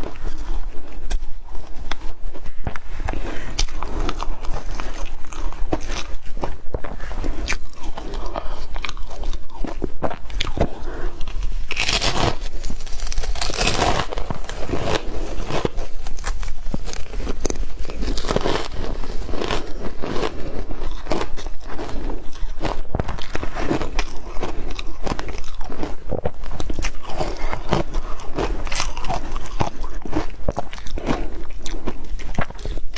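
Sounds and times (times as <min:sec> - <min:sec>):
chewing crunchy snow: 0:00.0 - 0:32.9.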